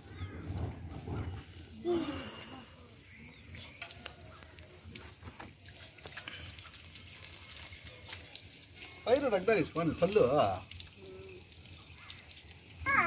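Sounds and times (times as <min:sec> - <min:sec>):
open fire crackling and popping: 0:00.0 - 0:13.0.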